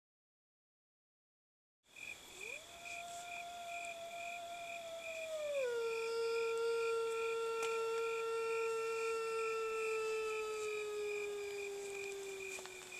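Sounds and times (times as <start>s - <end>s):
person imitating wolf howl: 2.4s - 12.9s.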